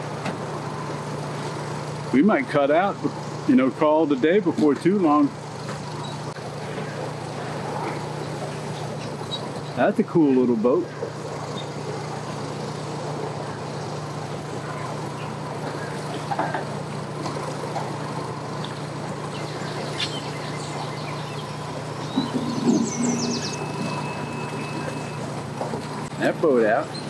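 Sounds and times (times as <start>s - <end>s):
vehicle engine humming: 0.0s - 27.0s.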